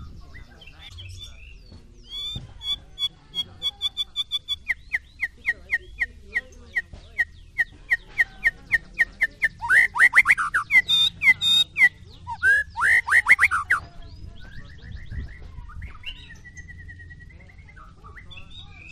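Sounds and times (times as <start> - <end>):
bird singing sharp repeated notes: 0.0 - 18.9.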